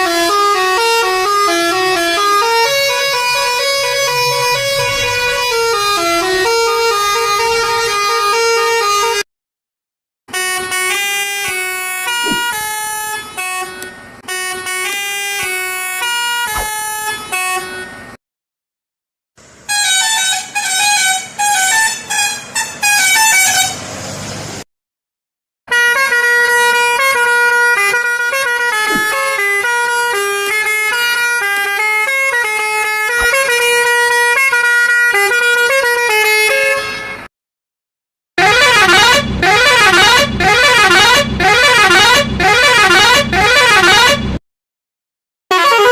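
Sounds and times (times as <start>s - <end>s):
musical vehicle horns playing tunes: 0.0s - 9.2s, 10.3s - 18.2s, 19.4s - 24.0s, 25.7s - 37.3s, 38.4s - 44.4s, 45.5s - 45.9s.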